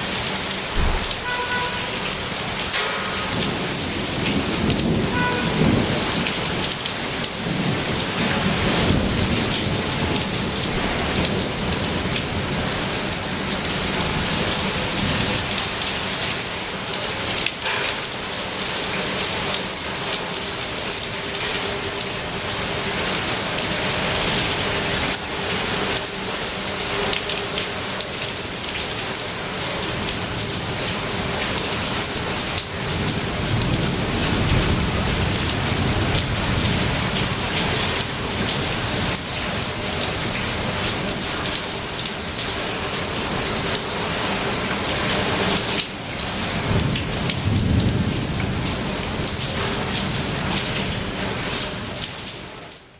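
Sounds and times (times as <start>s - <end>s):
hail and heavy rain pelting: 0.0s - 52.6s.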